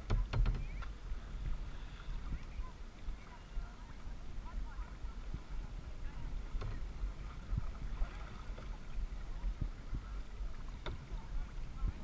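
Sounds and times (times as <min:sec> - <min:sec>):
low buffeting rumble: 0:00.0 - 0:12.0
water lapping against kayak hull: 0:00.0 - 0:12.0.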